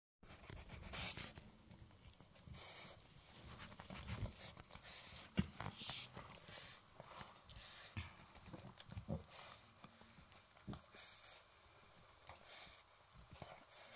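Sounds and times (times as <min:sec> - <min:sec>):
puppy chewing bone: 0:01.2 - 0:13.9.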